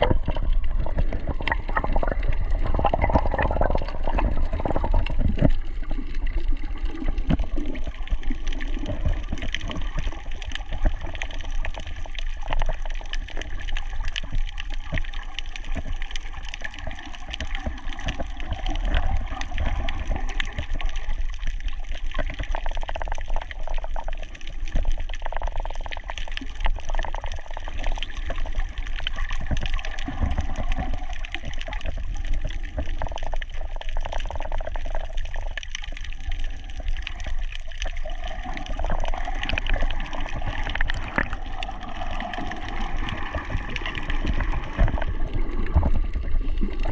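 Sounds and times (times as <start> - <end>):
crackle of small clicks: 0.0 - 46.9
water sloshing and gurgling: 0.0 - 46.9.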